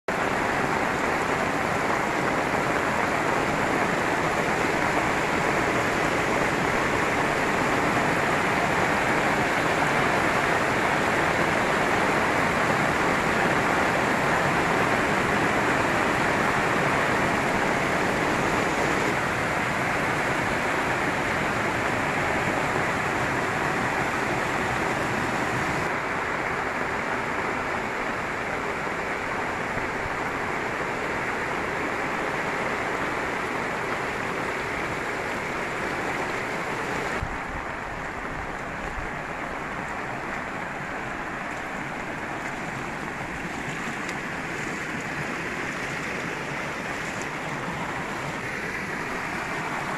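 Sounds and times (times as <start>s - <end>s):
floodwater rushing over ground: 0.0s - 49.9s
heavy rain pouring: 0.0s - 49.9s.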